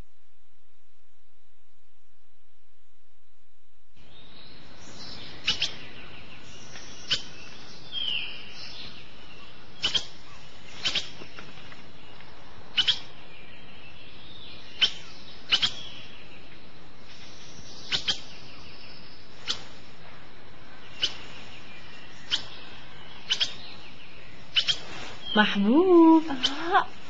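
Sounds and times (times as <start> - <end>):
steady hiss: 0.0 - 27.0
bird chirps: 4.0 - 19.9, 20.7 - 27.0.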